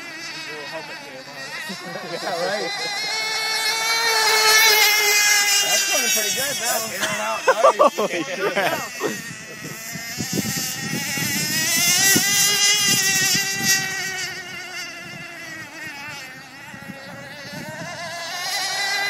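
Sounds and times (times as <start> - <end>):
model boat motor whining: 0.0 - 19.0.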